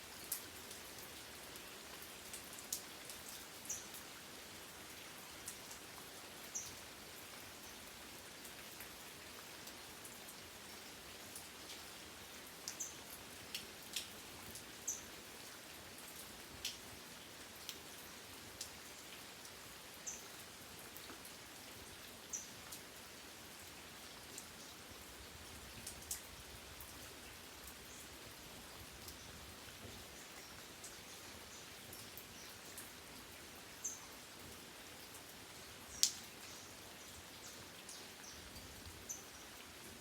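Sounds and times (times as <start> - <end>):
light rain: 0.0 - 40.0.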